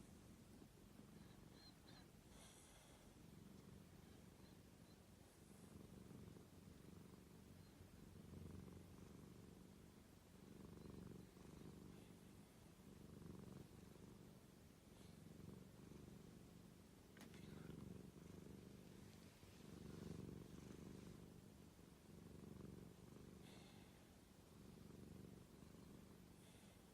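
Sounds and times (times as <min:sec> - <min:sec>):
cat purring: 0:00.0 - 0:26.9.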